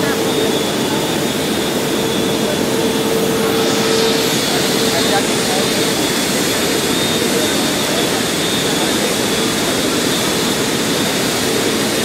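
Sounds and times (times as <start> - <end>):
loud industrial machinery noise: 0.0 - 12.0.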